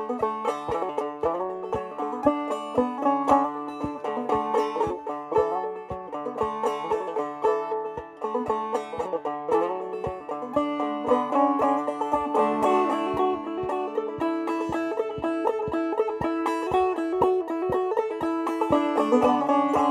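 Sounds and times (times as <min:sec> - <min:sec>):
banjo playing: 0:00.0 - 0:19.9.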